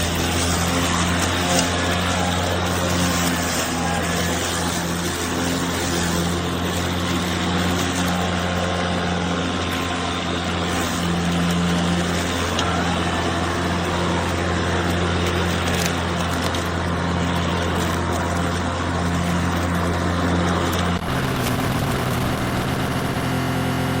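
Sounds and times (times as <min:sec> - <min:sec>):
electric lawn mower running: 0:00.0 - 0:24.0.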